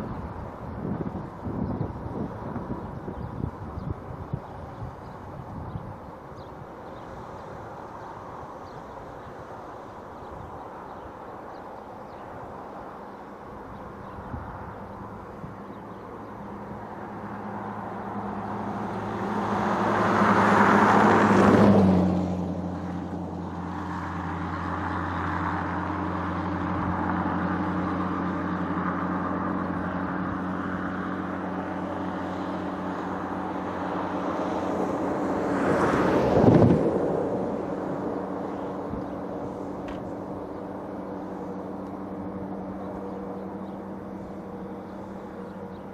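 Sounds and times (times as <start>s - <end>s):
diesel locomotive passing: 0.0s - 45.9s.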